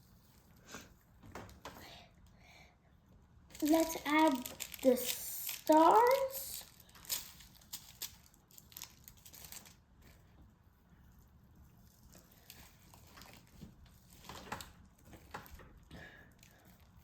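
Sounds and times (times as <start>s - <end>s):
crinkling and light taps: 0.3s - 2.0s, 3.5s - 17.0s.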